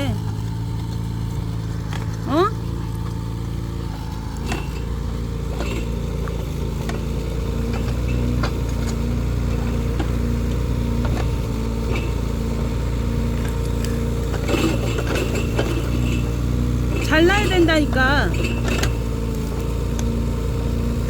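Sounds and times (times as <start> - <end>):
excavator engine running: 0.0 - 21.0.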